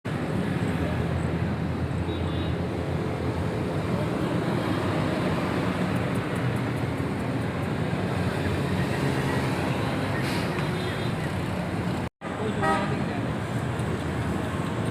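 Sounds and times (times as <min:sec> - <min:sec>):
road traffic rumble: 0:00.0 - 0:14.9.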